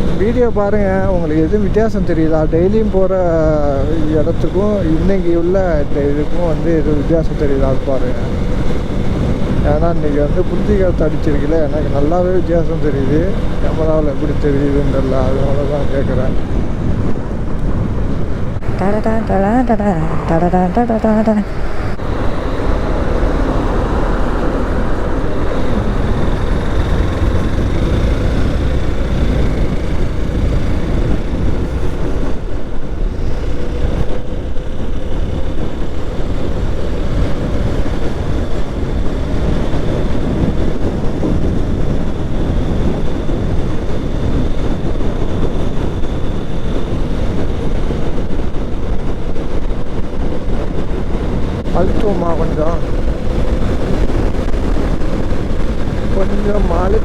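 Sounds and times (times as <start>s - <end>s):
motorcycle engine running: 0.0s - 46.0s
road noise: 0.0s - 57.0s
wind rush: 0.0s - 57.0s.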